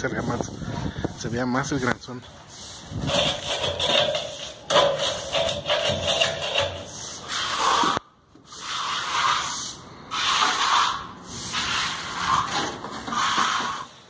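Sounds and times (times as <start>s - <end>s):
bristles scrubbing wet concrete: 0.0s - 14.0s.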